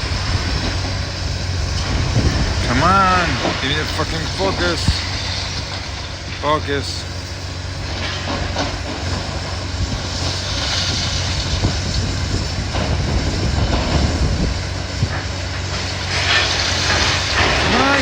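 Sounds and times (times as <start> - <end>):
machinery engine hum: 0.0 - 18.0
noisy hiss: 0.0 - 18.0.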